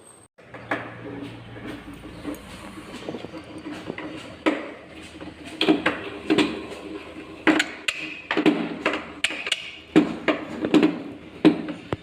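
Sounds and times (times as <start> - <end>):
hard plastic knocks and clatters: 0.4 - 6.7, 7.4 - 12.0.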